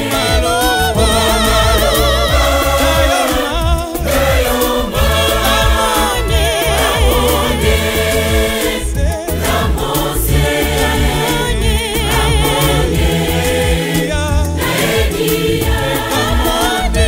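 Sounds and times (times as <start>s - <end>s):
choir singing harmony: 0.0s - 17.0s
lead voice singing with vibrato: 0.0s - 17.0s
steady beat and bass: 0.0s - 17.0s.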